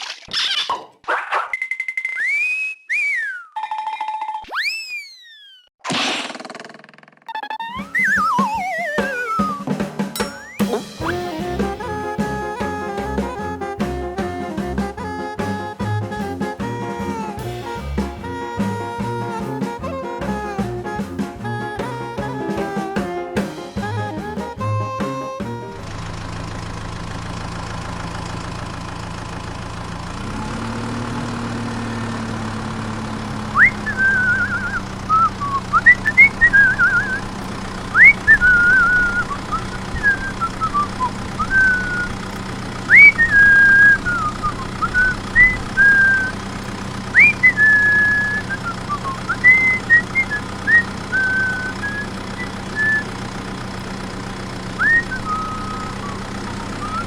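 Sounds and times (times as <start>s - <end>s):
whistled notes: 1.5s - 5.7s, 7.4s - 26.2s, 33.6s - 57.0s.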